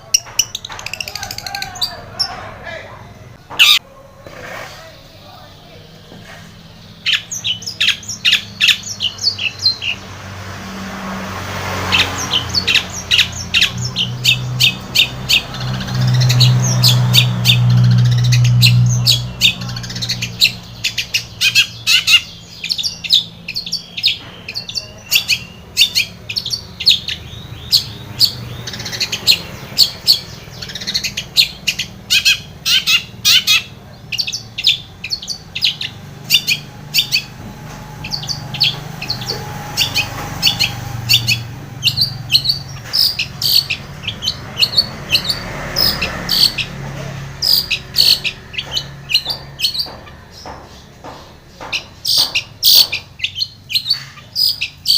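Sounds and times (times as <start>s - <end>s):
bird chattering song: 0.0s - 3.8s, 4.4s - 10.1s, 11.8s - 54.9s.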